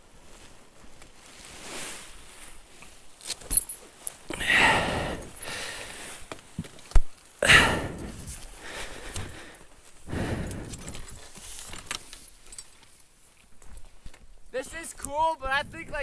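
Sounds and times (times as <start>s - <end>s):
gear rustling: 0.1s - 15.3s.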